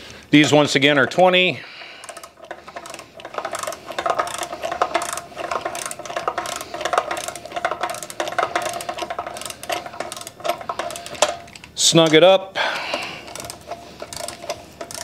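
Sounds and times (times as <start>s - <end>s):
hand ratchet clicking: 0.4s - 12.2s, 12.8s - 15.0s.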